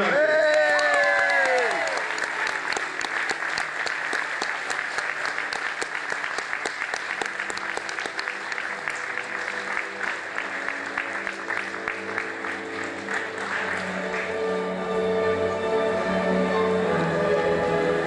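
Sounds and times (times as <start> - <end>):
audience applauding: 0.0 - 15.0
music: 2.1 - 18.0.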